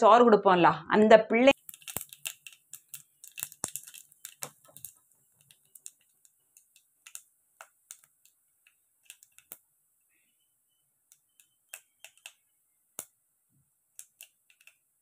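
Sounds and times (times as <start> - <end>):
spices crackling in hot oil: 1.5 - 15.0.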